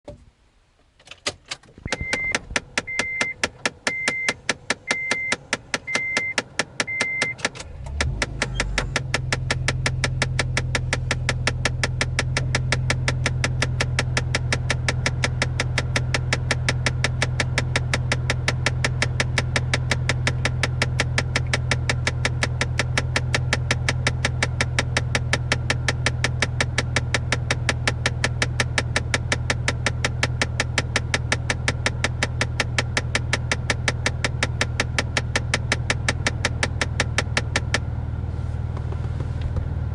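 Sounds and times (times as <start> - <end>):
car engine idling: 1.8 - 39.9.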